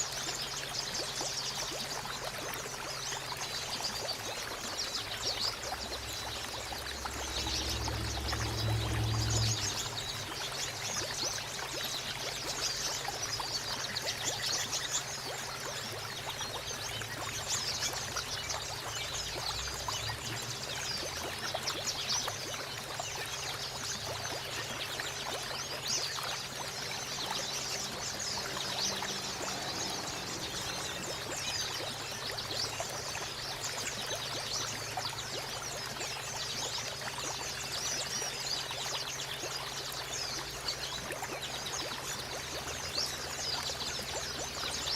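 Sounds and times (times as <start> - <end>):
high-pitched water splashes: 0.0 - 44.9
water trickling and pouring: 0.0 - 44.9.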